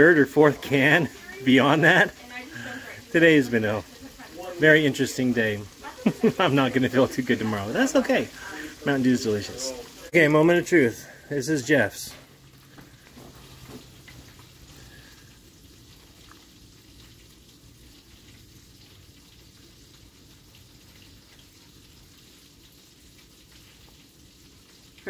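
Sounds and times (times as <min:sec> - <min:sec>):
faint room hiss: 0:00.0 - 0:25.0.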